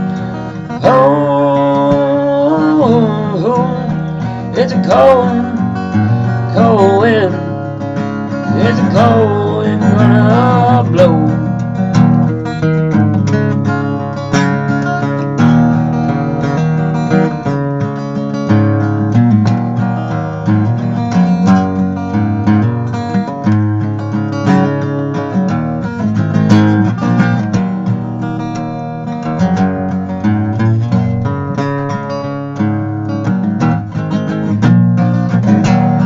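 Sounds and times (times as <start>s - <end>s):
acoustic guitar strummed and picked: 0.0s - 36.0s.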